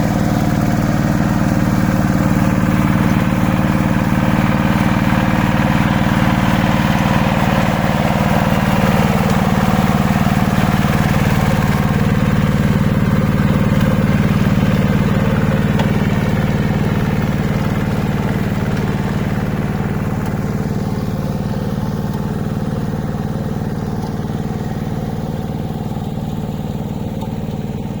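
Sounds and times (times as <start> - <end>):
hand tractor engine running: 0.0 - 28.0.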